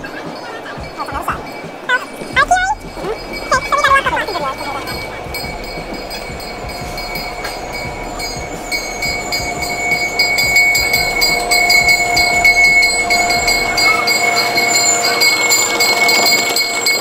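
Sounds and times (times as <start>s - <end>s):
high wheel squeal: 0.0s - 17.0s
train wheels rumbling and clicking: 0.0s - 17.0s.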